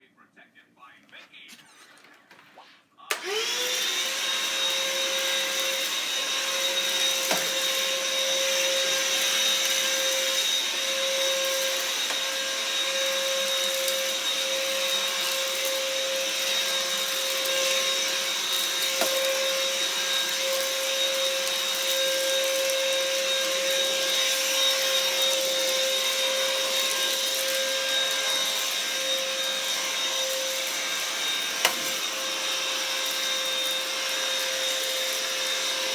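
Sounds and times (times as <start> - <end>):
vacuum cleaner motor whine: 3.1 - 35.9.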